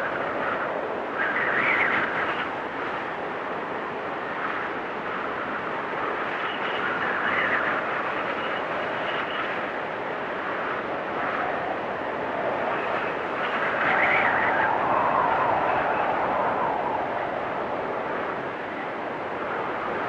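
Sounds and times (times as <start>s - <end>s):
storm wind blowing in gusts: 0.0s - 20.0s.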